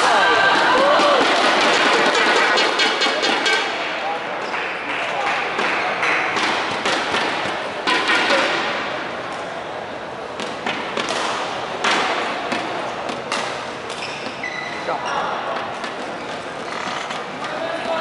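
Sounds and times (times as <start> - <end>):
crowd noise: 0.0 - 18.0.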